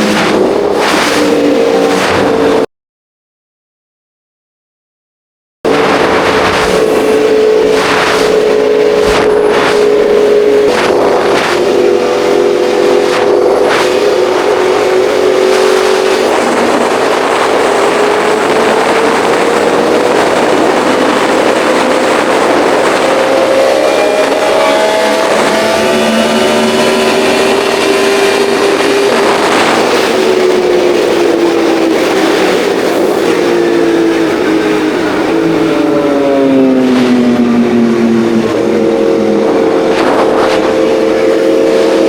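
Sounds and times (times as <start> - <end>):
motorcycle engine running at speed: 0.0 - 2.6, 5.7 - 42.0
wind rushing: 0.0 - 2.7, 5.7 - 42.0.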